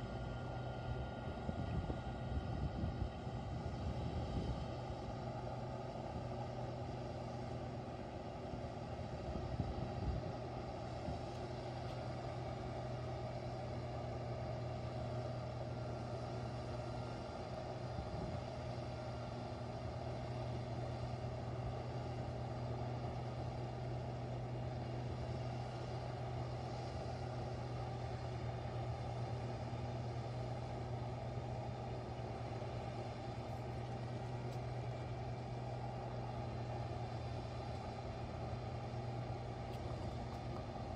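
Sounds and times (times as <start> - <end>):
low hum: 0.0 - 40.9
snow blower engine drone: 0.0 - 40.9.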